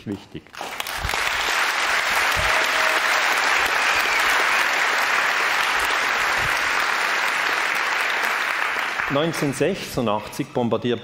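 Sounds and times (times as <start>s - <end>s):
audience applauding: 0.6s - 9.7s.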